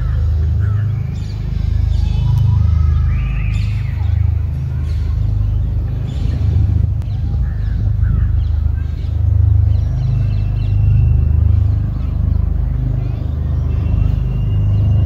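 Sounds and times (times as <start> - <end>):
faint bird chirps: 0.0 - 6.4, 7.0 - 15.0
distant helicopter rotors: 0.0 - 15.0.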